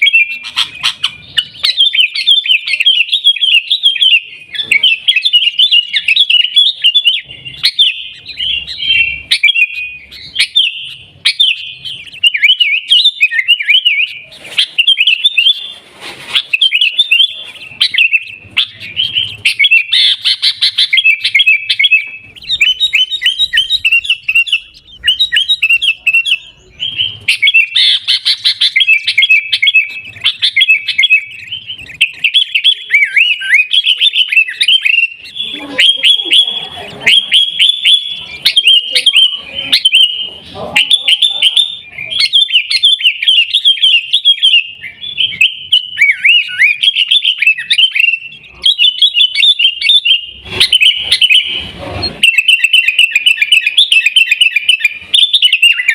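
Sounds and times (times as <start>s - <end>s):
bulbul chirping and warbling: 0.0s - 55.9s.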